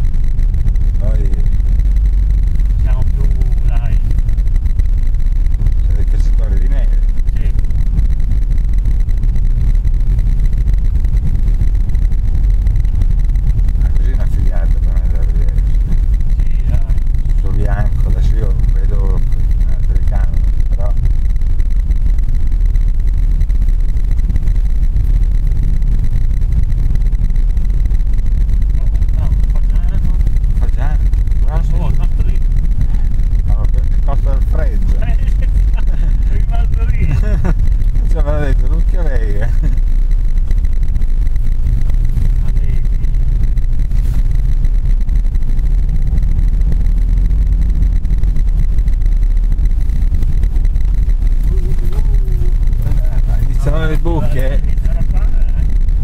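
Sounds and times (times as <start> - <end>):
car engine rumbling inside cabin: 0.0 - 56.0.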